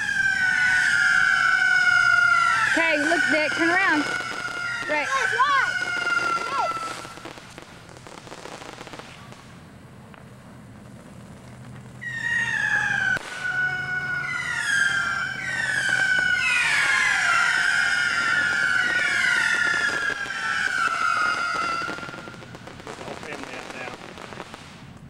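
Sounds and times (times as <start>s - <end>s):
whistling fireworks: 0.0s - 25.0s.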